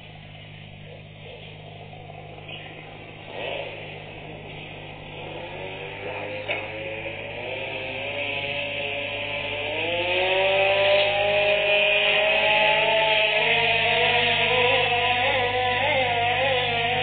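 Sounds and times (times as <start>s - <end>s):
small two-stroke engine revving: 0.0s - 17.0s.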